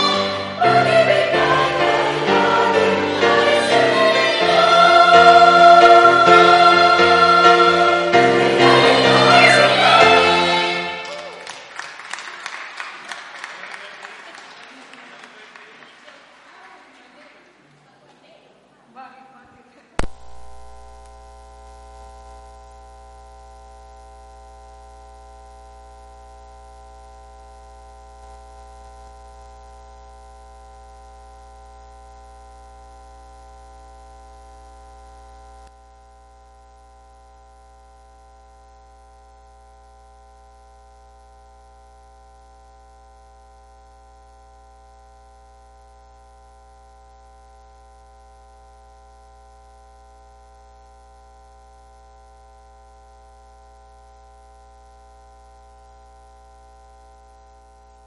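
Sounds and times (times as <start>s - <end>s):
electrical mains hum: 0.0s - 13.8s, 19.3s - 58.0s.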